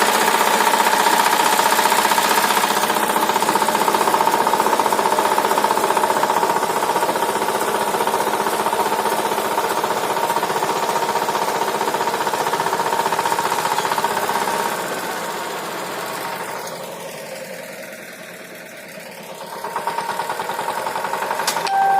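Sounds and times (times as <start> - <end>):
tiller engine running: 0.0 - 21.9.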